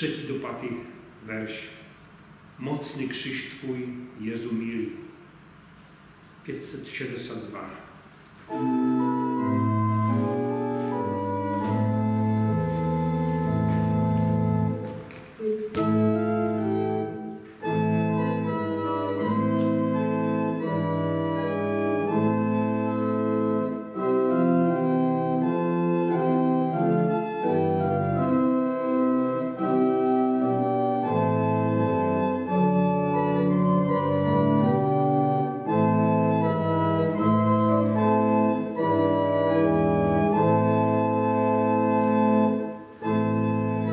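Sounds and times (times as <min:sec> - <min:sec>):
organ playing hymn chords: 0:00.0 - 0:43.9.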